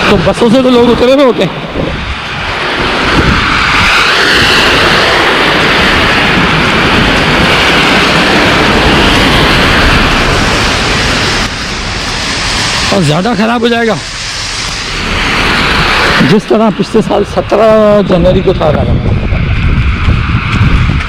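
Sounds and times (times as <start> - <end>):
vehicle passing on wet road: 1.9 - 17.7, 19.3 - 21.0.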